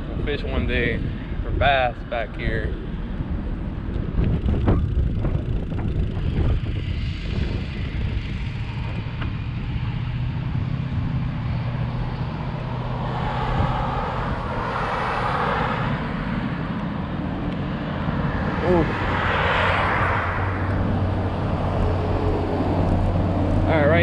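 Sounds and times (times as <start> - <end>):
wind rumbling on microphone: 0.0 - 24.0
motor engine droning: 3.1 - 24.0.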